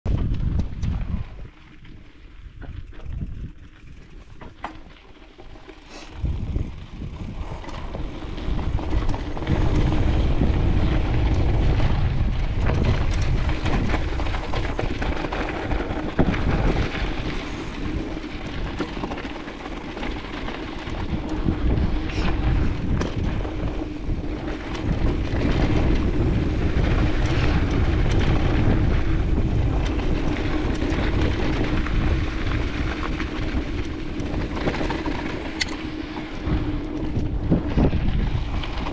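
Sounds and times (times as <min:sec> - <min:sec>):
wind buffeting microphone: 0:00.1 - 0:04.6, 0:05.5 - 0:38.9
bike knocks and rattles: 0:00.1 - 0:38.9
tyres rumbling on dirt: 0:02.8 - 0:38.9.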